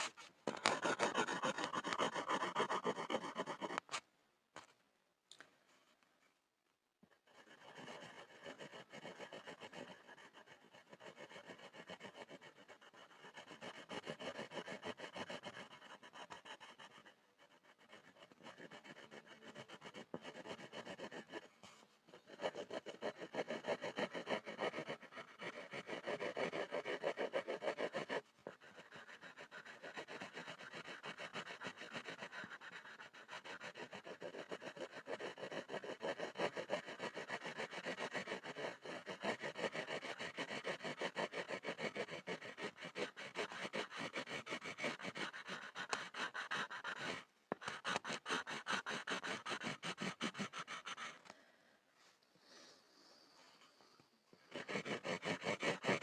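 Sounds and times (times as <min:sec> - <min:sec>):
pencil scribbling on wood: 0:00.0 - 0:04.7, 0:07.0 - 0:51.3, 0:54.4 - 0:56.0.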